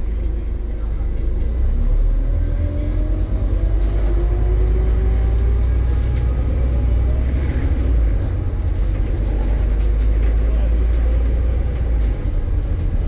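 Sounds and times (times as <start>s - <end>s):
bus diesel engine rumbling: 0.0s - 13.0s
rising engine whine: 0.0s - 13.0s.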